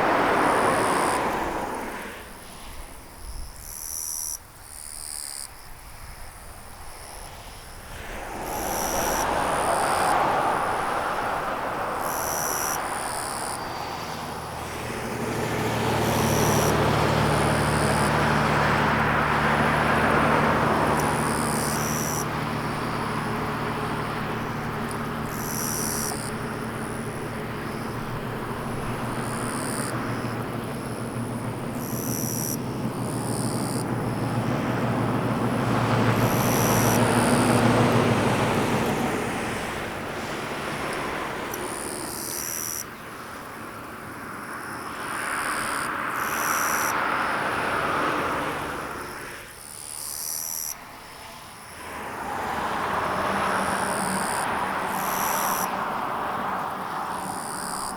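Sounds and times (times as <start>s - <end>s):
motor vehicle passing: 0.0s - 3.0s, 6.6s - 57.9s
low engine hum: 0.0s - 3.5s, 5.9s - 49.6s, 50.8s - 57.9s
insects chirping: 0.0s - 57.9s.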